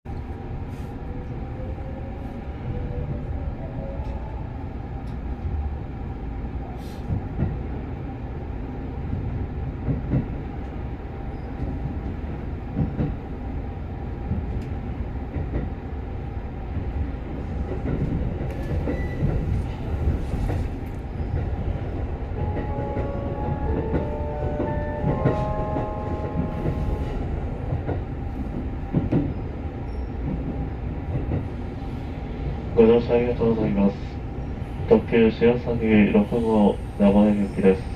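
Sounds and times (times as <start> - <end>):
train rumble: 0.1 - 37.9.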